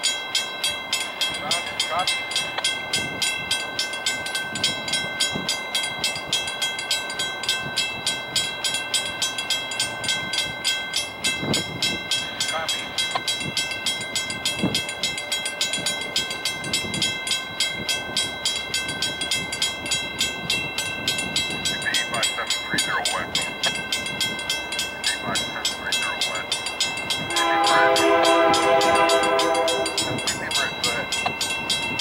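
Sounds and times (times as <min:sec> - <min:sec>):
distant train approaching: 0:00.0 - 0:32.0
steady high ringing tones: 0:00.0 - 0:32.0.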